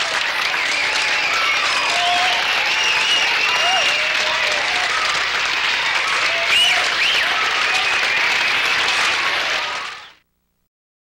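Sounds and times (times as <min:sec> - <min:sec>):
crowd cheering and applauding: 0:00.0 - 0:10.2
shouts and whistle-like calls: 0:00.0 - 0:10.2.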